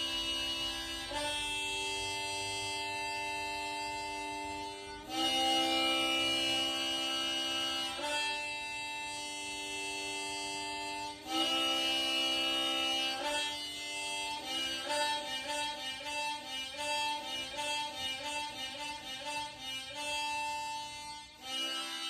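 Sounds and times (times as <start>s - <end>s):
harmonica chords: 0.0s - 22.0s.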